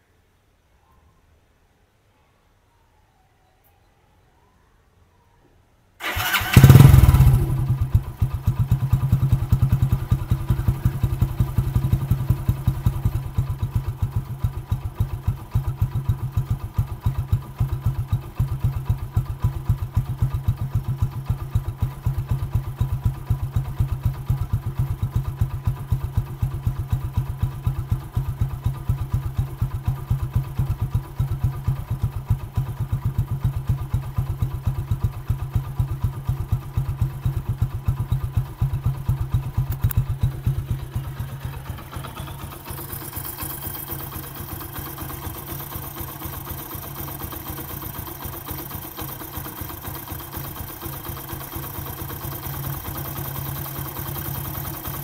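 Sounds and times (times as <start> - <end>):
motorcycle engine starting and idling: 6.0 - 55.0.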